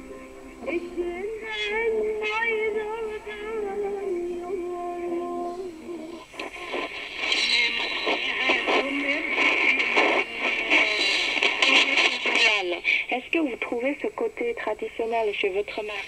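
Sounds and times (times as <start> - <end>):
choppy broadcast audio: 0.0 - 16.0
person singing over radio: 0.0 - 16.0
radio hiss and interference: 0.0 - 16.0.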